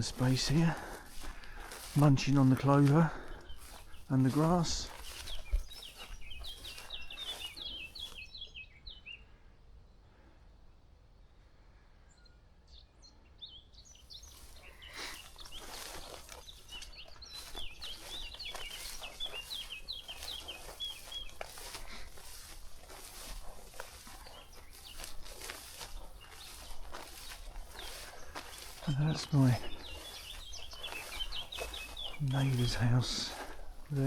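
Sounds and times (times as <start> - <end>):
footsteps through tall grass: 0.0 - 8.5, 14.1 - 34.0
songbirds chirping: 0.0 - 34.0.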